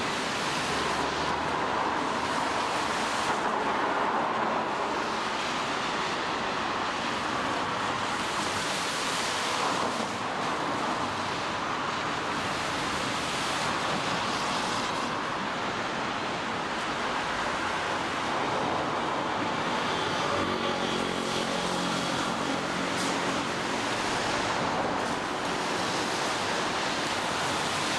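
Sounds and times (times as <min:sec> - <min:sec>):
car tyres hissing on wet road: 0:00.0 - 0:27.9
steady rain: 0:00.0 - 0:27.9.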